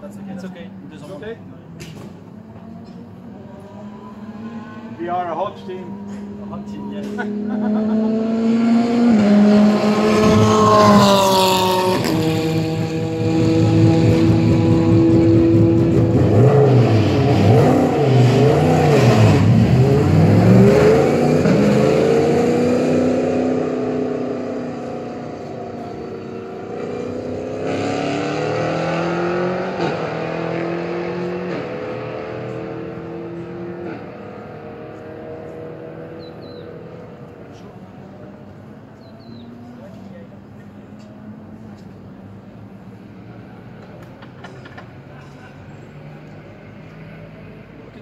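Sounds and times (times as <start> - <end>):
racing car engine revving: 2.2 - 43.1.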